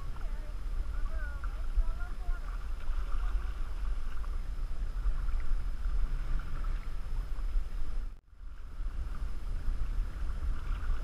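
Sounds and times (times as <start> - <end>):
water lapping against canoe hull: 0.0 - 11.0
wind buffeting microphone: 0.0 - 11.0.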